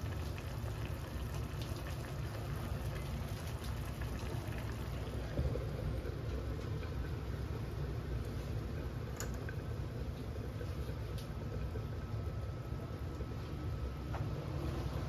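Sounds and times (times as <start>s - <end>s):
sauce bubbling in a saucepan: 0.0s - 15.0s.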